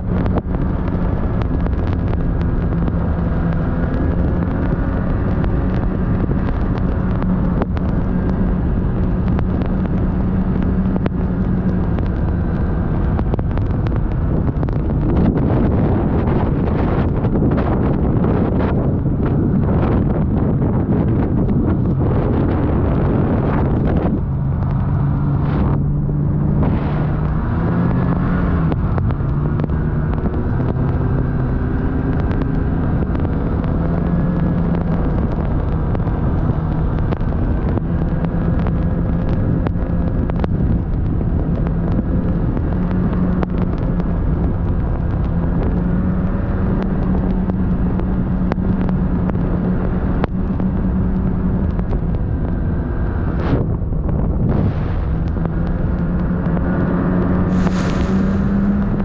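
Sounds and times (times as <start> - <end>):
road and wind rumble: 0.0 - 59.0
vehicle engine hum: 0.0 - 59.0.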